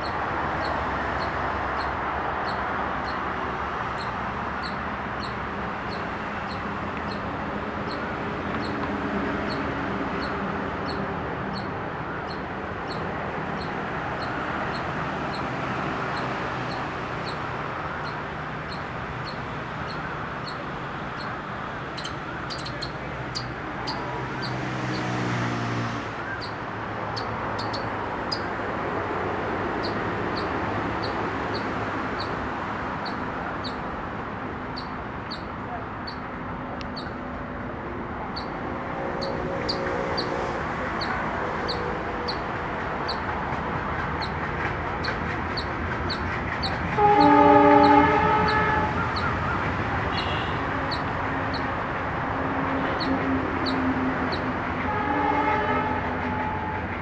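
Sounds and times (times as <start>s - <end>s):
squirrel chip calls: 0.0s - 25.6s, 26.2s - 37.3s, 38.2s - 54.9s
passing vehicle: 0.0s - 57.0s
traffic hum: 0.0s - 57.0s.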